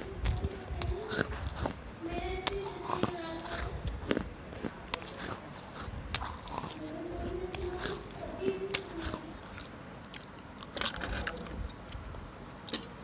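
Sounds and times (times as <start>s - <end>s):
crunchy biting and chewing: 0.2s - 1.8s, 2.4s - 13.0s.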